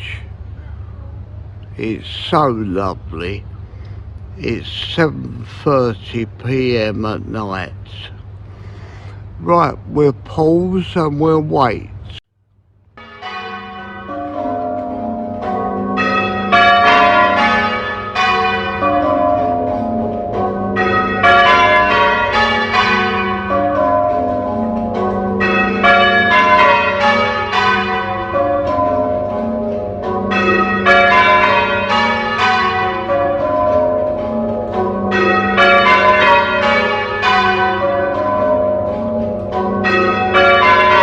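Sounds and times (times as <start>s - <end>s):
church bells change ringing: 1.8s - 12.2s, 13.0s - 41.0s.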